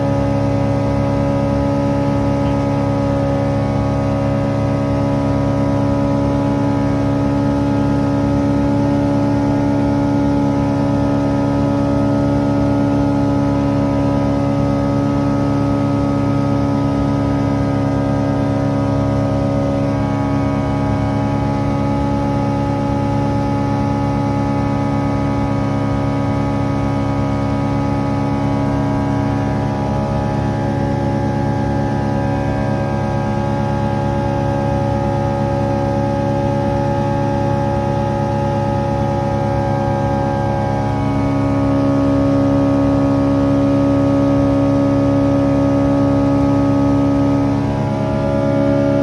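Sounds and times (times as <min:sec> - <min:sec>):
light aircraft engine droning: 0:00.0 - 0:49.0.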